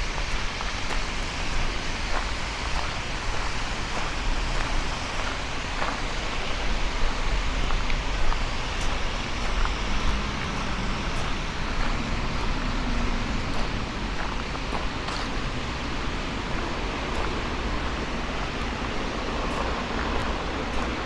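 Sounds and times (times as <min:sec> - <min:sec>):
distant road traffic: 0:00.0 - 0:21.0
wind rumbling on microphone: 0:00.0 - 0:21.0.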